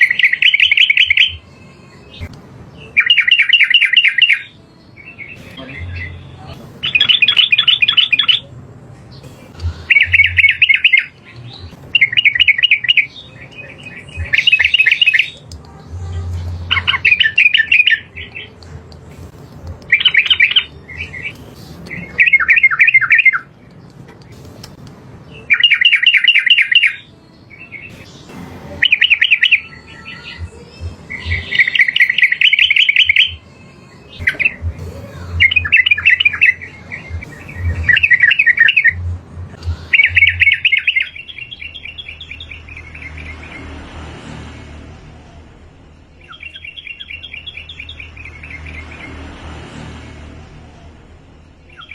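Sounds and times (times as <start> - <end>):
bird singing rapid chattering phrases: 0.0 - 43.6, 46.2 - 49.2, 51.7 - 51.9.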